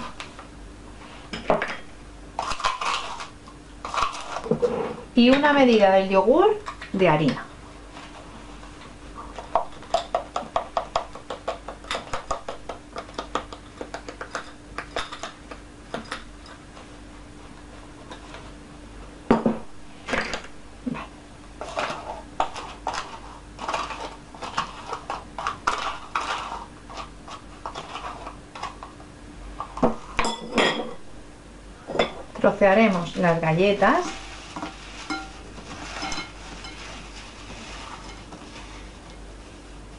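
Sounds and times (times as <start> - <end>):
faint hum: 0.0 - 39.9.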